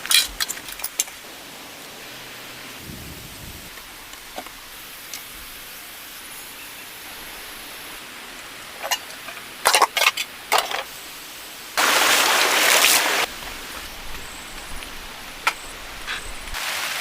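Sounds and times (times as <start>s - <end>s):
steady rain hiss: 0.0s - 17.0s
loud burst of hissing noise: 1.2s - 8.9s, 10.5s - 17.0s.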